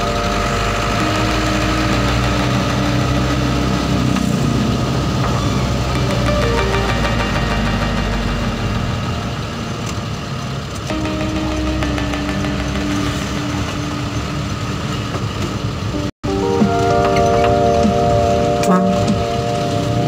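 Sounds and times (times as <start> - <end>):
truck engine from inside cab: 0.0 - 20.0.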